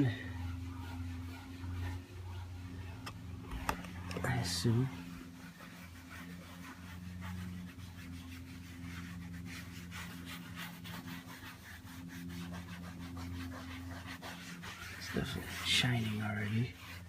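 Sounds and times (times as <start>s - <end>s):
hand rubbing leather: 0.0s - 17.0s
steady low hum: 0.0s - 17.0s.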